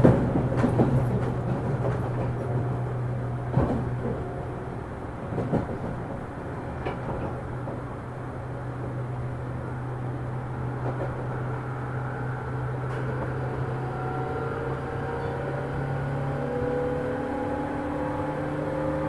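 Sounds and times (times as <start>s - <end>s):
train rail and running noise: 0.0s - 19.0s.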